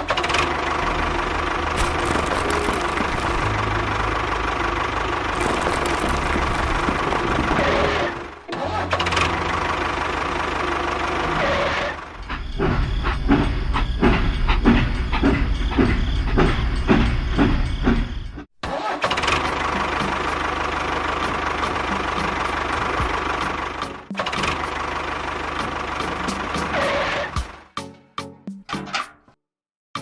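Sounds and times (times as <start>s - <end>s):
tractor engine chugging: 1.5s - 18.5s, 19.2s - 26.7s.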